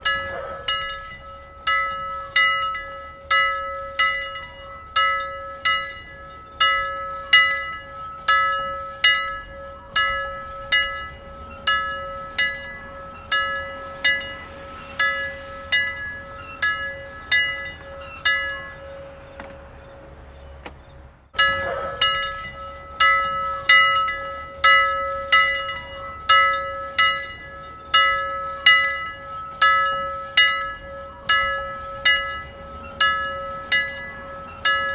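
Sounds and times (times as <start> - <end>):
church bells ringing: 0.0 - 34.9
continuous hum note: 0.0 - 34.9.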